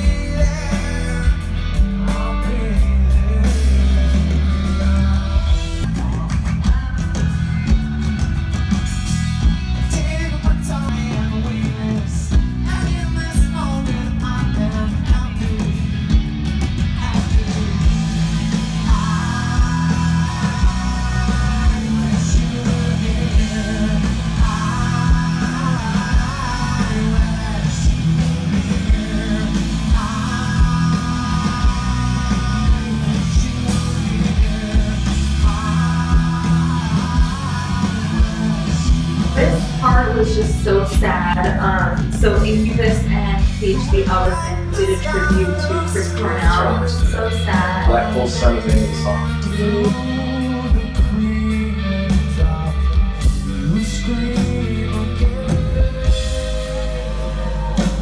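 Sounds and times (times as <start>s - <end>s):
man singing: 0.0s - 8.1s, 9.8s - 16.2s, 16.8s - 18.2s, 18.8s - 58.0s
live rock band playing: 0.0s - 58.0s.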